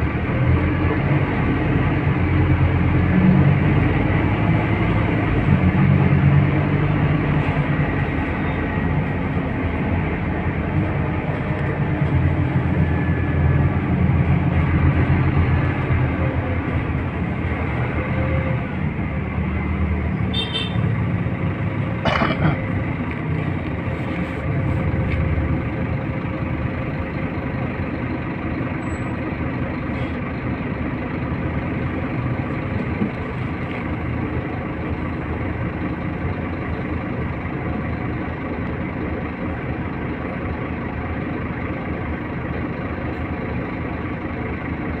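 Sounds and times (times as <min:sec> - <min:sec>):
bus engine idling hum: 0:00.0 - 0:45.0.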